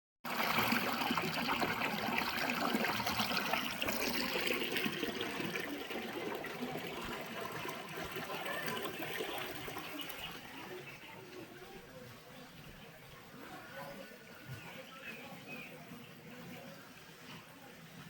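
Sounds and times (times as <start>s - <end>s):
water splashing and trickling: 0.2s - 18.0s.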